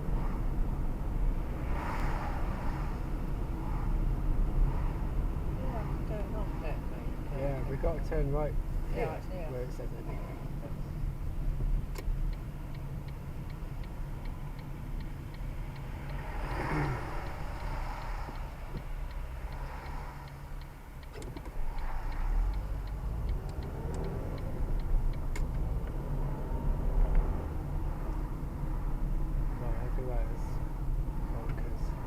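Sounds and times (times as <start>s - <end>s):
vehicle passing: 0.0s - 11.1s, 14.4s - 20.6s, 21.6s - 32.0s
turn signal ticking: 0.0s - 32.0s.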